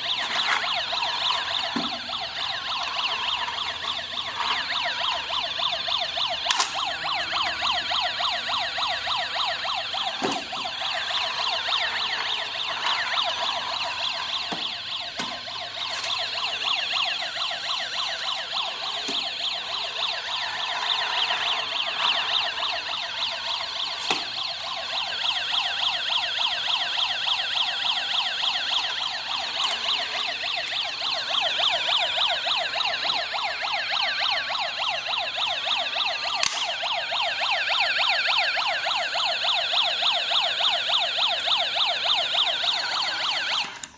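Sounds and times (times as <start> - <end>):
toy police siren wailing: 0.0 - 43.9.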